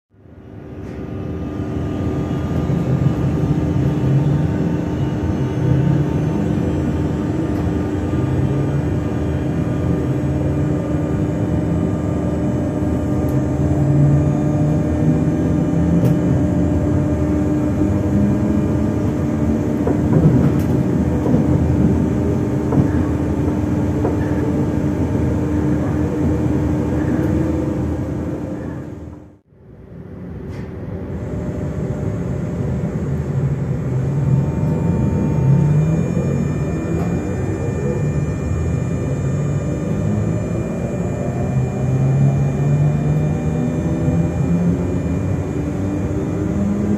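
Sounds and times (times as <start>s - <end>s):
electric train hum: 0.1s - 46.9s
rail rumble: 0.3s - 46.9s.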